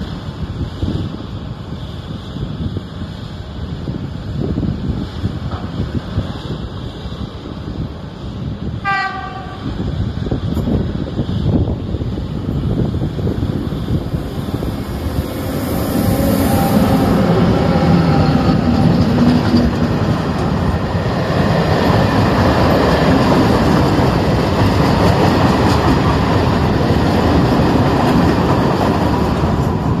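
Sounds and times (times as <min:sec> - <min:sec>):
train wheels rumbling on rails: 0:00.0 - 0:30.0
locomotive hum: 0:02.7 - 0:30.0.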